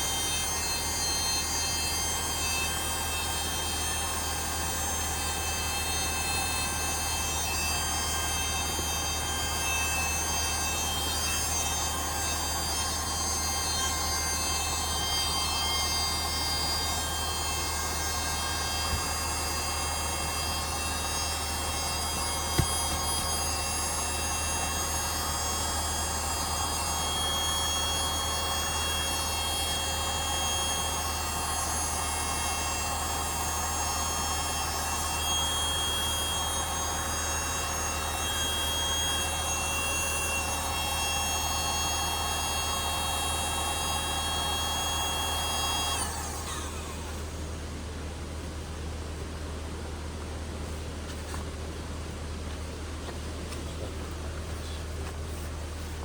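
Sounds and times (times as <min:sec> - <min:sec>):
mechanical drone with whines: 0:00.0 - 0:48.0.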